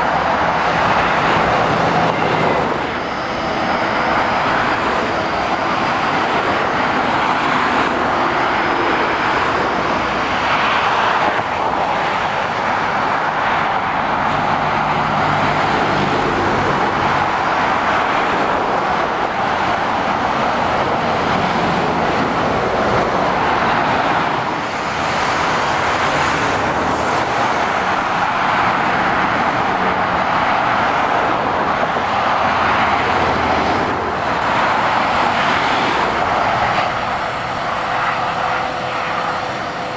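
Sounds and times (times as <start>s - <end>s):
lorry diesel engine hum: 0.0s - 39.9s
tyres roaring on road: 0.0s - 39.9s.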